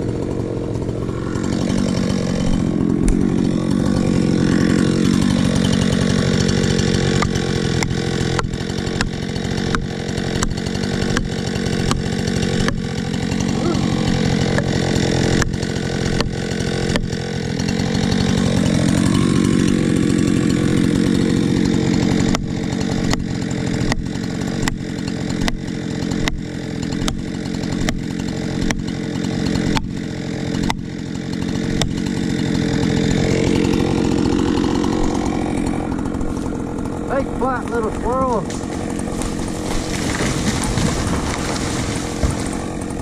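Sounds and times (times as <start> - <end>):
chainsaw running: 0.0 - 43.0.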